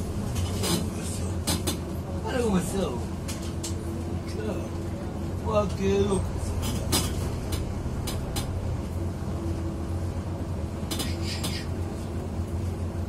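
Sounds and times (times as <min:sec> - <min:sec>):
bus rumbling in motion: 0:00.0 - 0:13.0.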